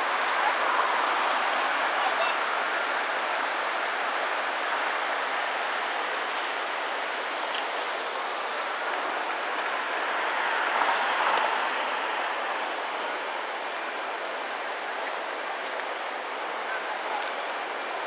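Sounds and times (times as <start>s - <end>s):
river rushing: 0.0s - 18.0s
road traffic: 0.0s - 18.0s.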